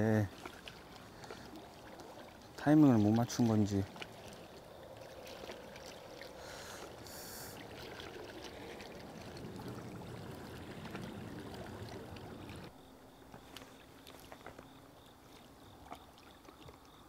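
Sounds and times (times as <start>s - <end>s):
small waves lapping on rocks: 0.0s - 17.0s.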